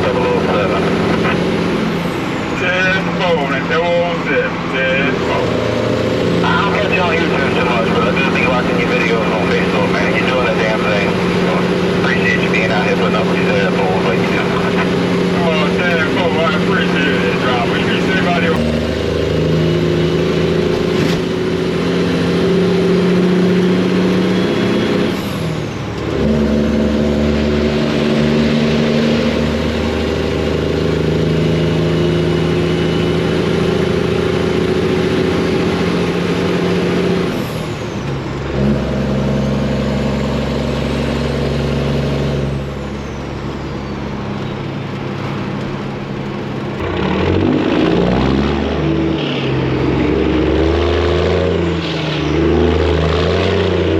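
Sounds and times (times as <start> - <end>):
truck diesel engine running: 0.0 - 53.9.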